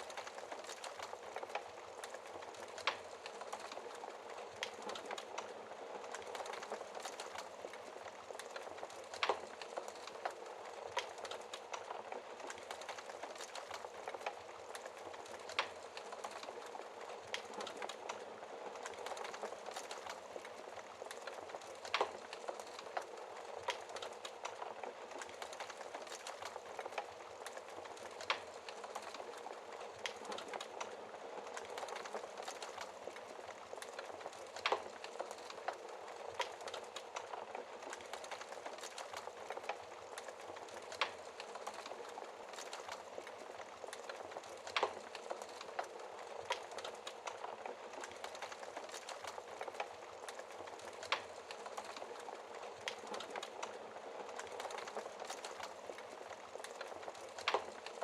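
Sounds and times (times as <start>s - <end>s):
fire hissing and crackling: 0.0s - 58.0s.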